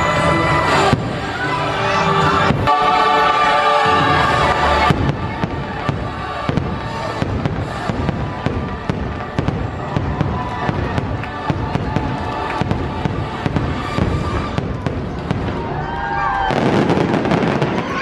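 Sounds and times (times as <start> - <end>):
music playing: 0.0 - 17.7
fireworks bursting and crackling: 0.0 - 18.0.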